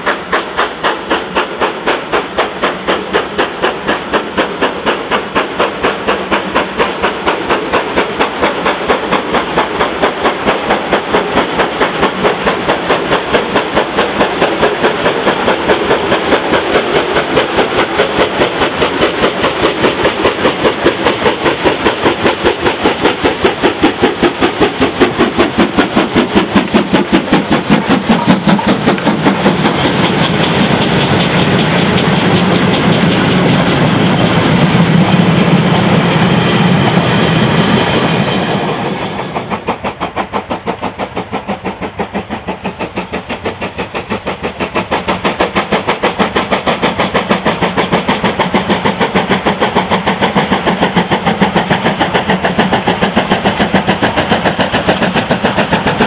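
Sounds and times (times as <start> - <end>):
steam locomotive exhaust beats: 0.0 - 56.0
wagons rumbling on rails: 0.0 - 56.0.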